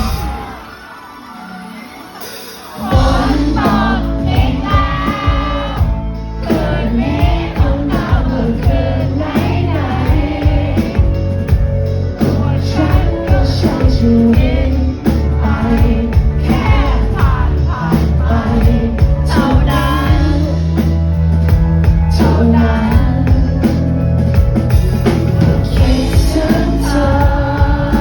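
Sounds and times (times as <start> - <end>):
pop-rock band playing: 0.0 - 28.0
lead vocal singing: 2.6 - 28.0.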